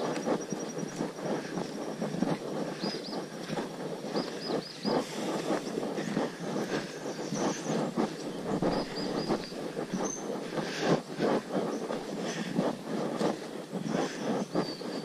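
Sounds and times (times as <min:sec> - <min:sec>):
footsteps crunching on gravel: 0:00.0 - 0:13.6.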